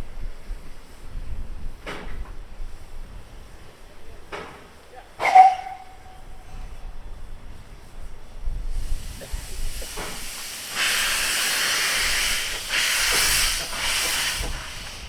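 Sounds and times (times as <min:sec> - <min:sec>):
steam locomotive hissing steam: 0:00.0 - 0:15.0.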